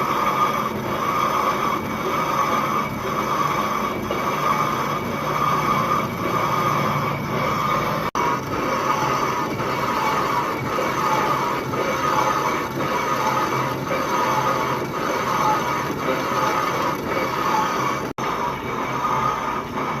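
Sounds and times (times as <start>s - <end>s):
metal-boring machine grinding whine: 0.0s - 20.0s.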